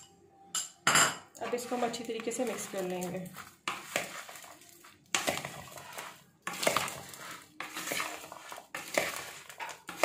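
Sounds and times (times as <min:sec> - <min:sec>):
fruit tossed in a bowl: 0:01.4 - 0:10.0
utensil scraping a bowl: 0:01.4 - 0:10.0.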